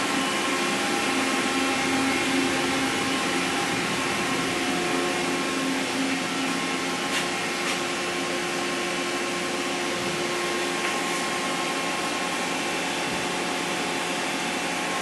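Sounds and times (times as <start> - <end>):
machine whirring hum: 0.0 - 15.0.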